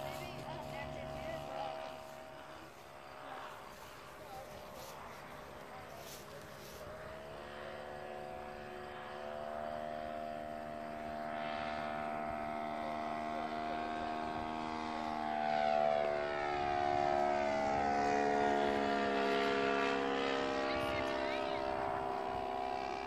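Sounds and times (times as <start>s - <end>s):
model plane engine: 0.0s - 23.0s.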